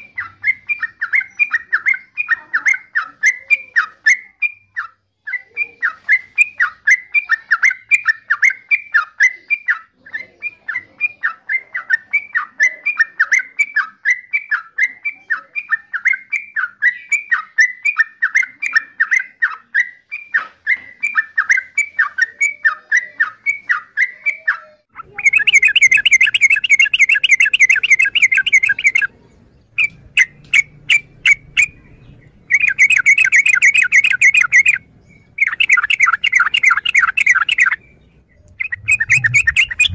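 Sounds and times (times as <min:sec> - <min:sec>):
bulbul calling: 0:00.0 - 0:39.9.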